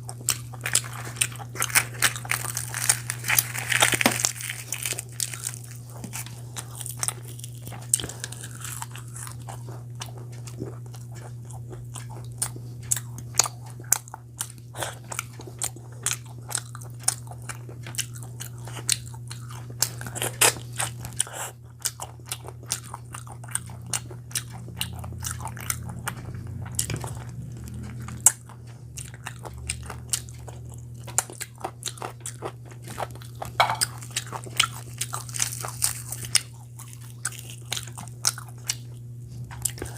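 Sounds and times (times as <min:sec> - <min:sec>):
person chewing food: 0:00.0 - 0:39.9
steady low hum: 0:00.0 - 0:39.9
mouth clicks and crunches: 0:00.2 - 0:39.9.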